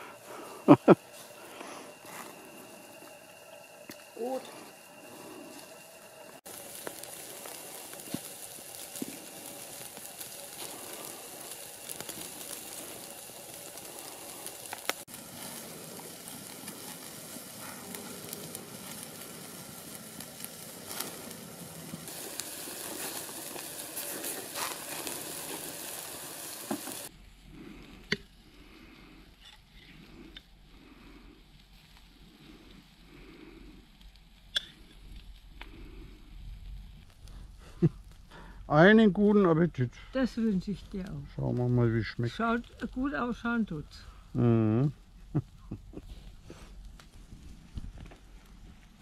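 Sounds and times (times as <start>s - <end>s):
meat sizzling on a grill: 0.0s - 49.0s
wood fire crackling and popping: 0.0s - 49.0s.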